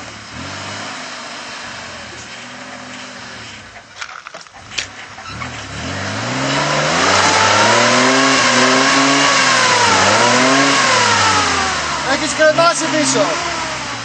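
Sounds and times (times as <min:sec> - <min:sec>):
vehicle engine revving hard: 0:00.0 - 0:14.0.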